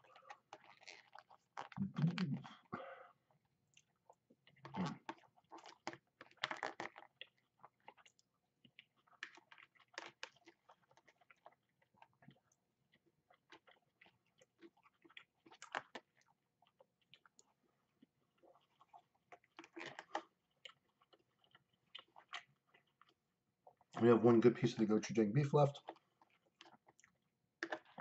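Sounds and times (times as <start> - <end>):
person chewing and biting food: 0.0 - 24.0, 25.8 - 28.0.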